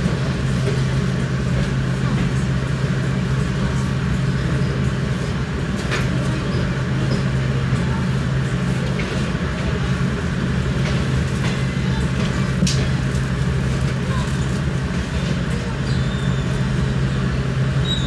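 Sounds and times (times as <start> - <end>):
train rumble and hum: 0.0 - 18.0.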